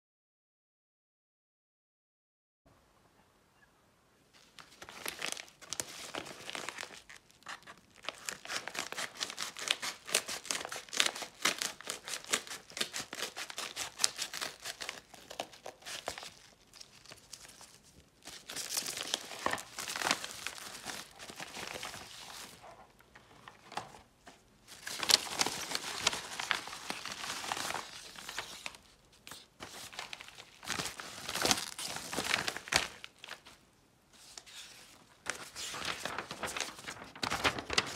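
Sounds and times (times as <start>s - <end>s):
paper mailer crinkling and tearing: 4.4s - 24.0s, 24.7s - 33.5s, 34.4s - 37.9s.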